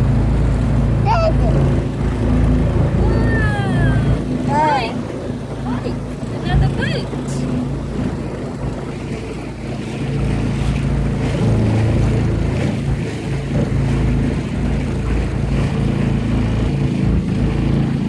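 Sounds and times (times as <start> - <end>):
motorboat engine droning: 0.0 - 18.0
wind buffeting microphone: 0.0 - 18.0.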